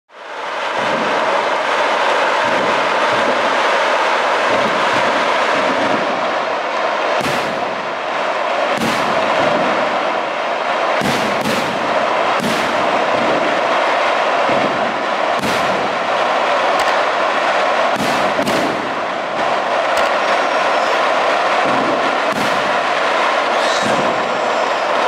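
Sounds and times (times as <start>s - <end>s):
fireworks crackling: 0.1s - 25.0s
fireworks shells bursting: 0.3s - 25.0s.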